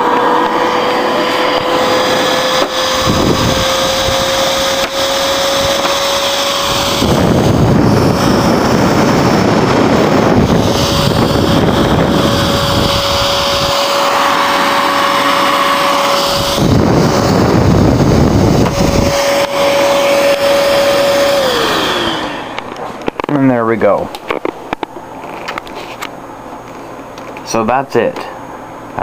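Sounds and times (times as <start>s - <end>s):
computer fan rushing and whining: 0.0s - 29.0s.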